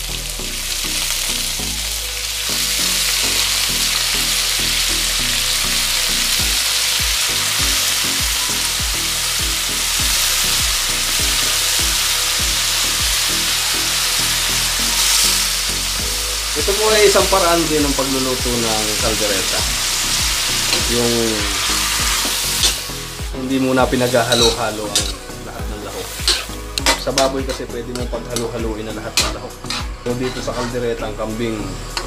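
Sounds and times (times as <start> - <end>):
meat sizzling in a wok: 0.0 - 32.0.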